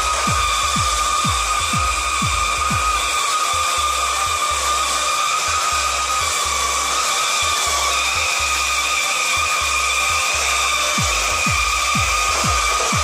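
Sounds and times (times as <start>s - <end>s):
electronic music with bass beat: 0.0s - 13.0s
power trowel motor whine: 0.0s - 13.0s.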